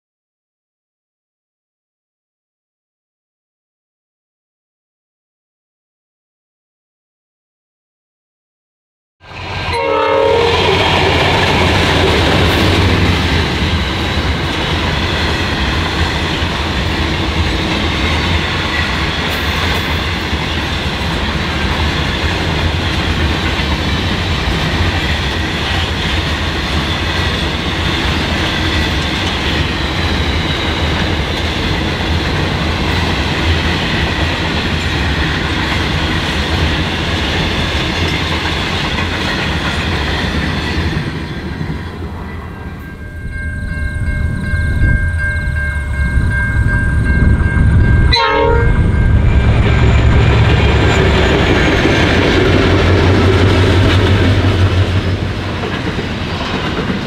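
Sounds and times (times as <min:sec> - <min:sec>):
diesel locomotive engine: 0:09.2 - 0:57.0
train wagons running past: 0:09.2 - 0:57.0.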